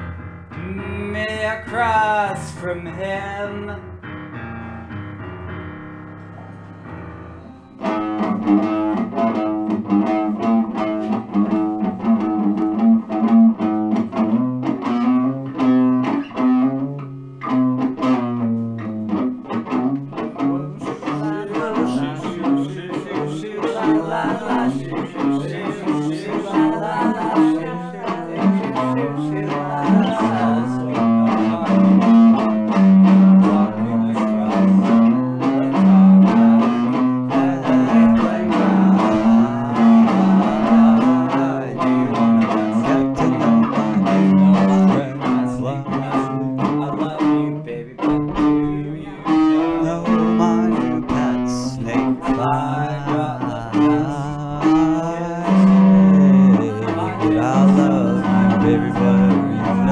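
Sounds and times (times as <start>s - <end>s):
guitar-led rock music: 0.0s - 59.9s.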